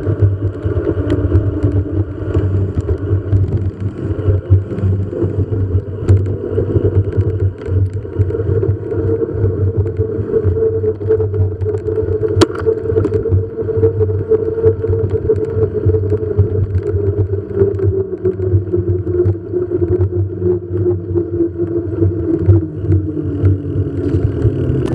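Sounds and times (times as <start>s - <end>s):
vehicle rolling on asphalt: 0.0s - 24.9s.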